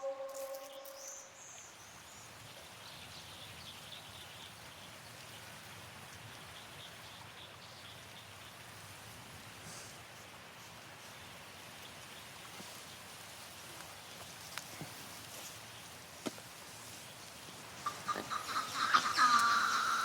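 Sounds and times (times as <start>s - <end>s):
outdoor ambience hiss: 0.0s - 20.0s.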